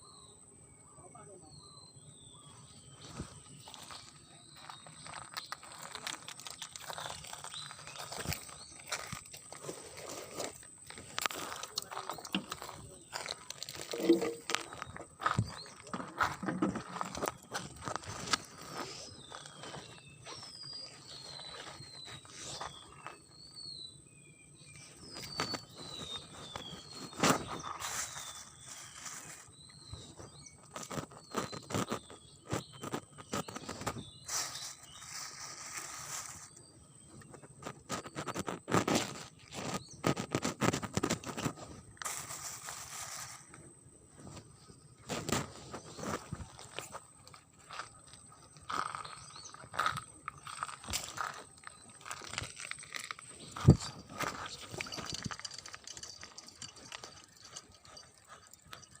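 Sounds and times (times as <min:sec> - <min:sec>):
bird chirping: 0:00.0 - 0:42.7, 0:43.5 - 0:59.0.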